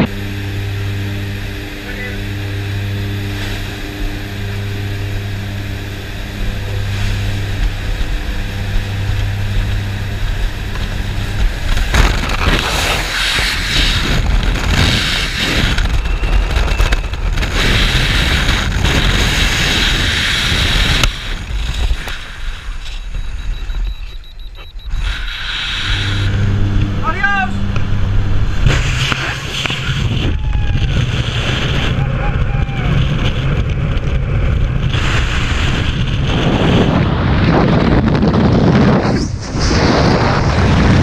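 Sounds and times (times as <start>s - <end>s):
turboprop engines droning: 0.0s - 41.0s
wind buffeting microphone: 2.4s - 41.0s.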